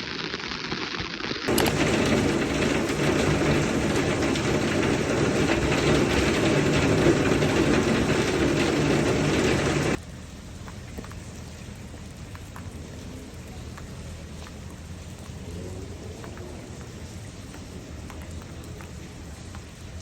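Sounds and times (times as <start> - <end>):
heavy rain on an umbrella: 0.0 - 20.0.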